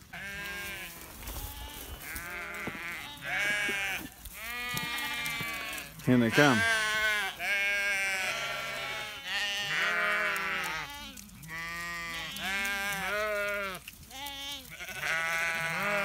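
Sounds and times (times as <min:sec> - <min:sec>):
sheep and lambs bleating: 0:00.0 - 0:16.0.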